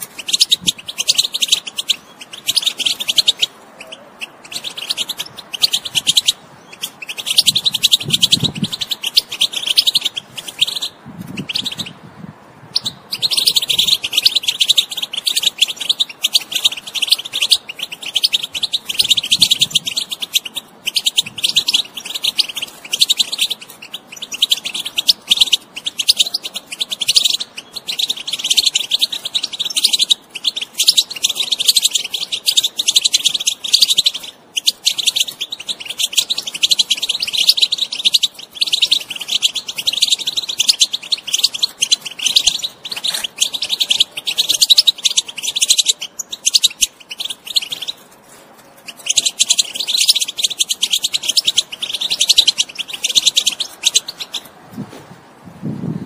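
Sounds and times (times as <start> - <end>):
goldfinch twittering song: 0.0 - 12.0, 12.7 - 48.1, 48.8 - 54.5.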